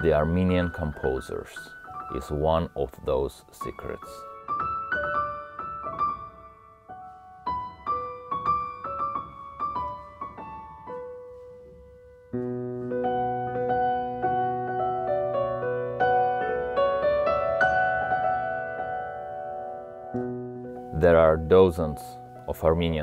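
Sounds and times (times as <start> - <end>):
solo grand piano melody: 0.0 - 23.0.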